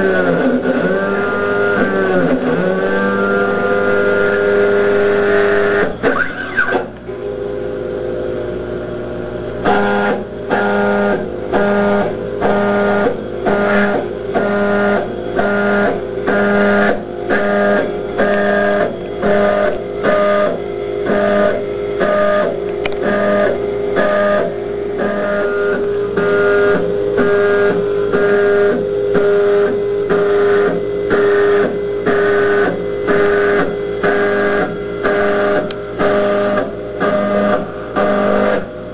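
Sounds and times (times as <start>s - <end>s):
stepper motors whining: 0.0s - 7.7s, 8.5s - 38.9s
steady hum: 0.0s - 38.9s.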